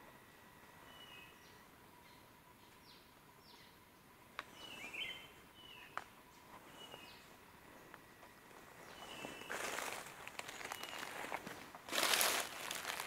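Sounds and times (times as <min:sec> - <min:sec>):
bird chirping: 0:00.3 - 0:11.4.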